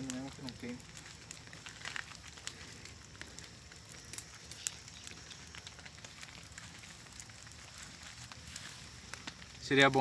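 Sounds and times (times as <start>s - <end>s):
fire popping: 0.0s - 10.0s
wood fire crackling: 0.0s - 10.0s.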